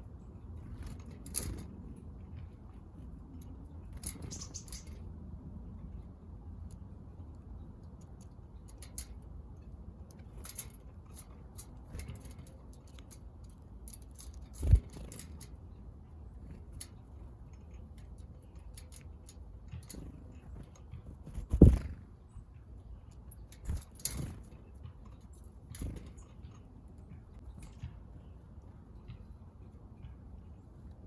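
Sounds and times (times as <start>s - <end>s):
birds pecking at seed: 0.1s - 29.4s.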